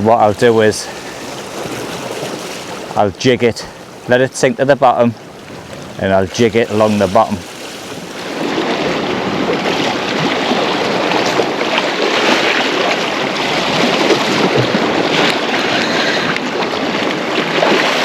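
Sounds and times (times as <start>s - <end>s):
sea water washing against rocks: 0.0s - 18.0s.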